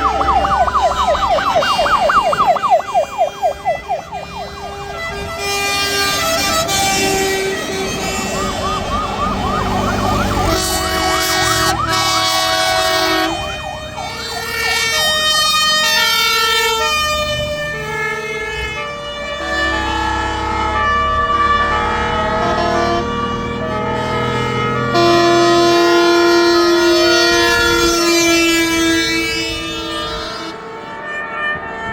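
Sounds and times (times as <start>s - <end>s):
fire engine sirens: 0.0s - 31.9s
truck engines rumbling: 0.0s - 31.9s.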